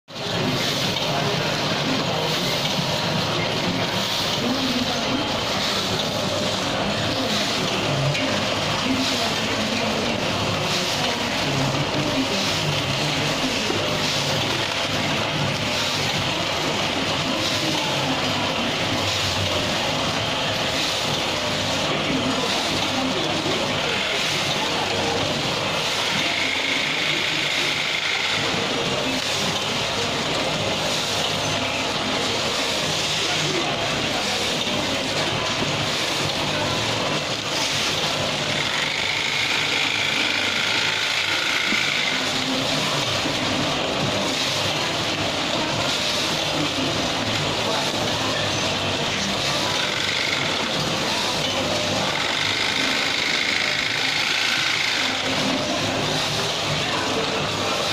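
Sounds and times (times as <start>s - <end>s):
packing machine running: 0.1s - 57.9s.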